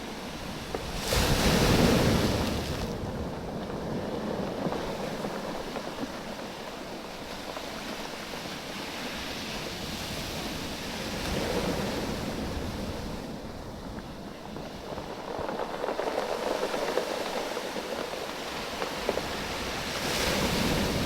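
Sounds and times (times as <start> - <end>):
waves washing on a beach: 0.0 - 21.0.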